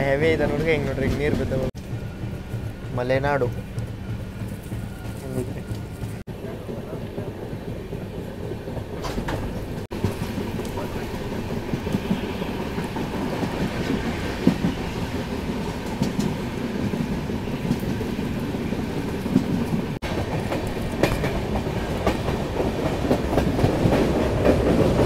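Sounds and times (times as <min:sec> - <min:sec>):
train coach rumbling on track: 0:00.0 - 0:25.0
wheels clacking over rail joints: 0:00.0 - 0:25.0.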